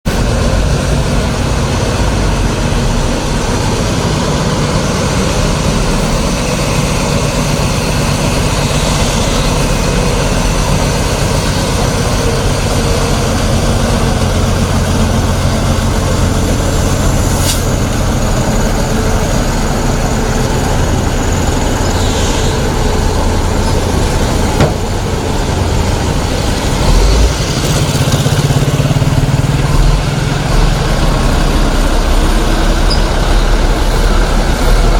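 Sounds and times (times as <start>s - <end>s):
heavy truck engines droning: 0.1s - 34.9s.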